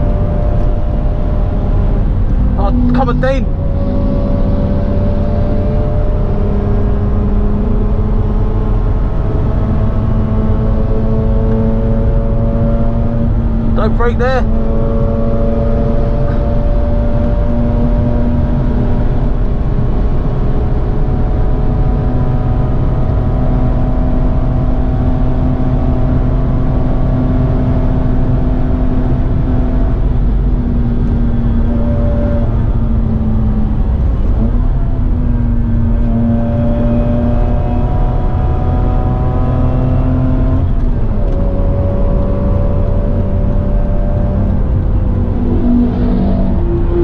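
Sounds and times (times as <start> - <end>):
rotary engine at high revs: 0.0 - 47.0.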